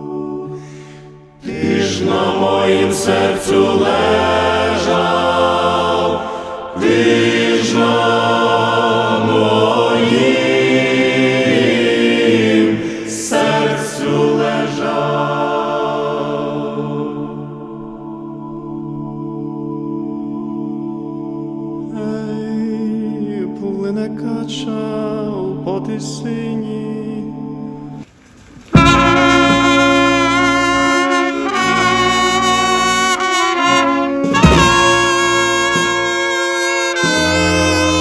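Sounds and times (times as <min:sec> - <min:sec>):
choir singing a funeral chant: 0:00.0 - 0:28.0, 0:28.8 - 0:36.3, 0:37.0 - 0:38.0.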